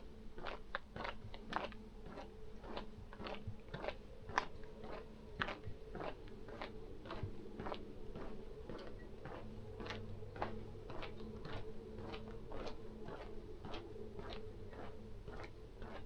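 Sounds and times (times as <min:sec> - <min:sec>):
faint steady hum: 0:00.0 - 0:16.0
footsteps crunching on path: 0:01.0 - 0:16.0.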